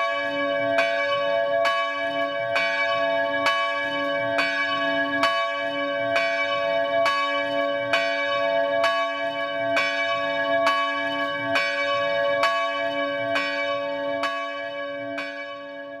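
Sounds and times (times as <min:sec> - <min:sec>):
church bell ringing: 0:00.0 - 0:16.0.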